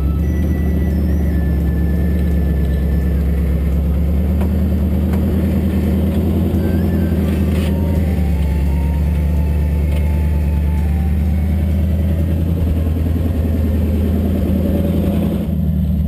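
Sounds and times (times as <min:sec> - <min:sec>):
buggy engine running: 0:00.0 - 0:16.0.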